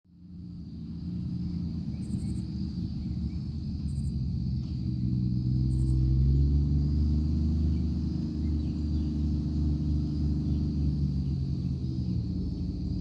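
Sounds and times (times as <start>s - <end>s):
truck engine rumbling: 0.1s - 13.0s.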